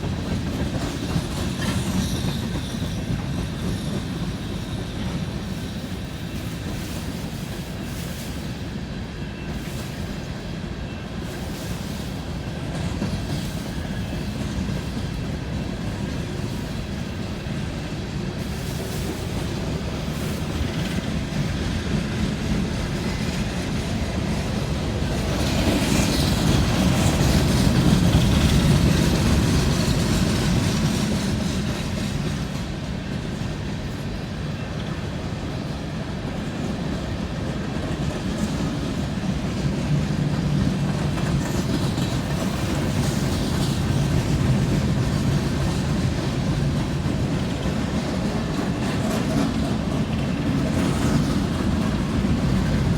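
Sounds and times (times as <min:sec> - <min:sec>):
freight cars rumbling on rails: 0:00.0 - 0:52.9.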